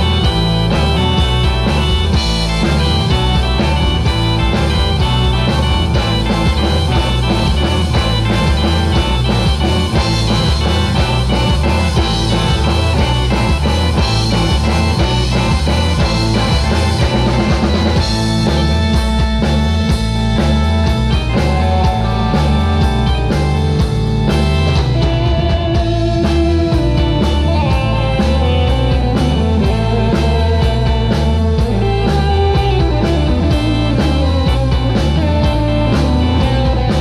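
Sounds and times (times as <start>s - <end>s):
bass guitar: 0.0s - 37.0s
drum kit: 0.0s - 37.0s
electric guitar: 0.0s - 37.0s
keyboard chords: 0.0s - 37.0s.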